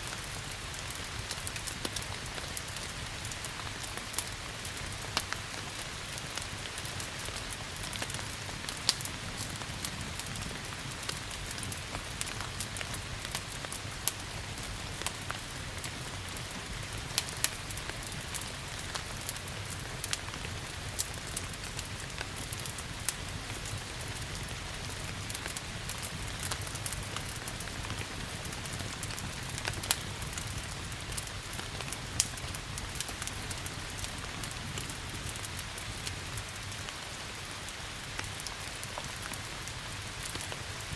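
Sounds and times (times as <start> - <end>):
steady rain: 0.0 - 40.9
wood fire crackling: 0.0 - 40.9.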